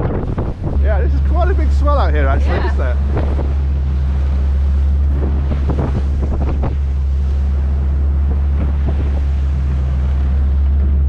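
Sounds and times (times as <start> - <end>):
boat engine droning: 0.0 - 11.0
water rushing past hull: 0.0 - 11.0
wind buffeting microphone: 0.0 - 11.0.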